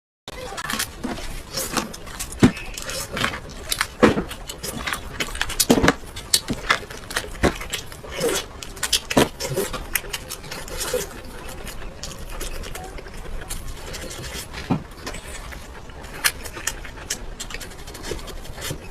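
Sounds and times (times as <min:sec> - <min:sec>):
voices: 0:00.3 - 0:18.9.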